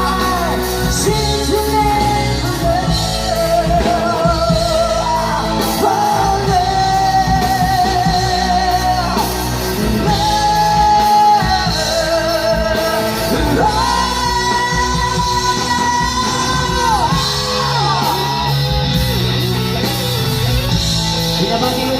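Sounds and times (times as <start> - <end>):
amplified live band with heavy bass: 0.0 - 21.9.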